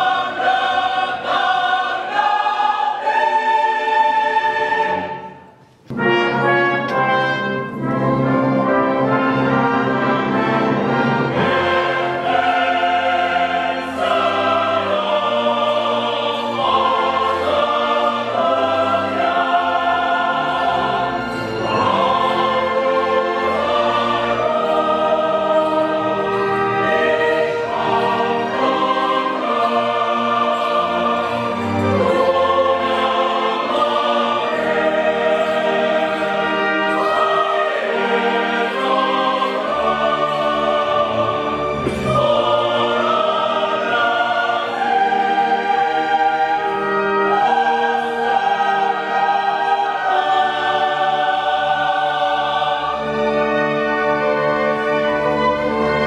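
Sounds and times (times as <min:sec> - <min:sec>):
operatic chorus singing: 0:00.0 - 0:56.0
orchestra playing: 0:00.0 - 0:56.0.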